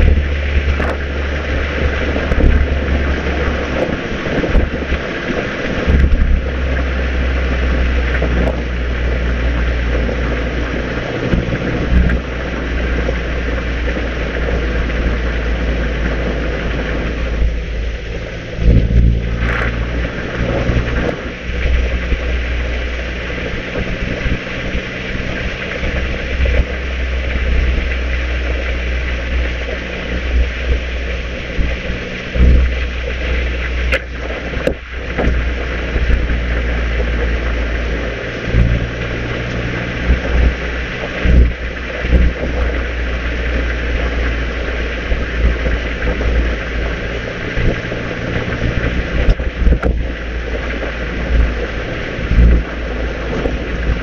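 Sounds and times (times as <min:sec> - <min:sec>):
car engine pulling: 0:00.0 - 0:54.0
road noise: 0:00.0 - 0:54.0
wind noise: 0:00.0 - 0:54.0.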